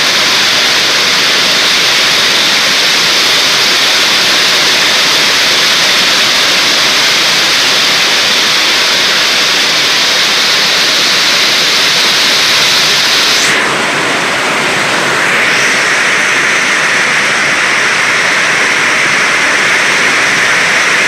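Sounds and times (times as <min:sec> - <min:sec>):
heavy rain hissing: 0:00.0 - 0:21.0
wind: 0:00.0 - 0:21.0.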